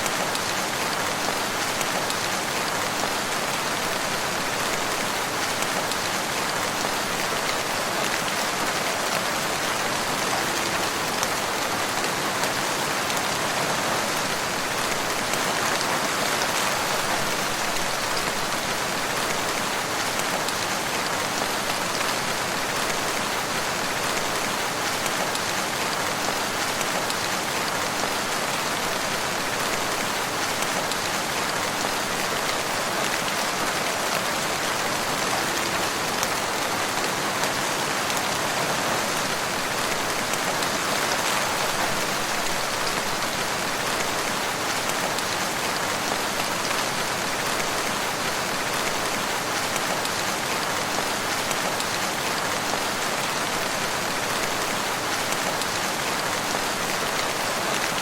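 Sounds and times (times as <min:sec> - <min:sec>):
rain patter in forest: 0:00.0 - 0:58.0.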